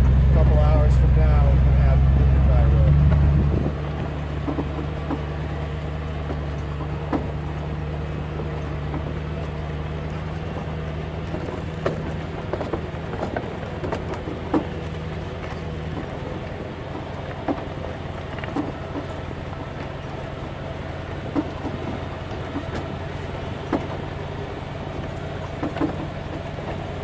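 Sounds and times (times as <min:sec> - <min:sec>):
truck engine running: 0:00.0 - 0:27.0
vehicle knocks and rattles: 0:00.0 - 0:27.0.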